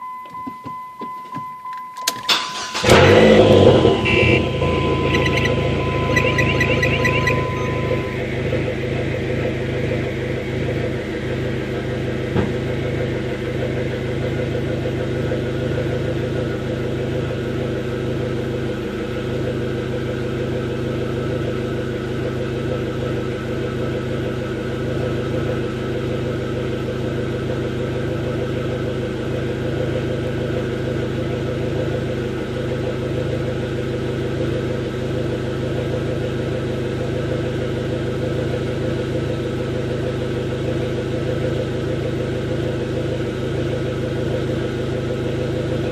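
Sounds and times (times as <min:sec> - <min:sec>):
car engine idling: 0:02.0 - 0:45.9.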